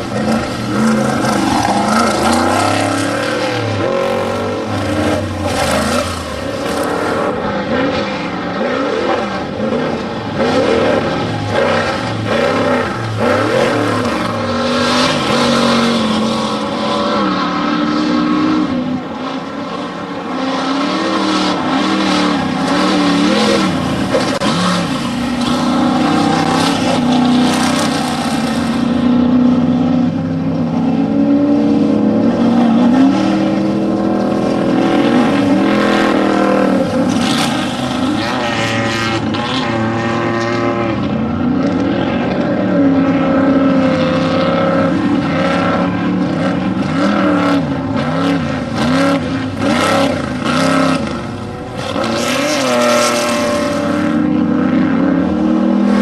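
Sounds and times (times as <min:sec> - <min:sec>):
off-road race vehicle engines: 0:00.0 - 0:56.0.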